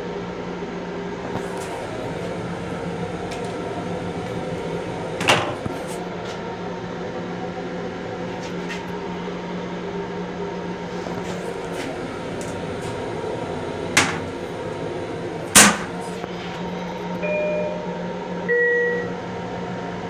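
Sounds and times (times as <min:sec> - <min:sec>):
train restroom hum: 0:00.0 - 0:20.0.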